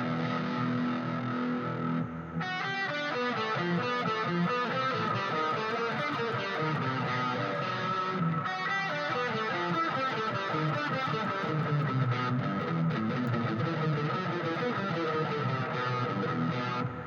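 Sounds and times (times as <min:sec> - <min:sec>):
guitar plucking and strumming: 0:00.0 - 0:17.0.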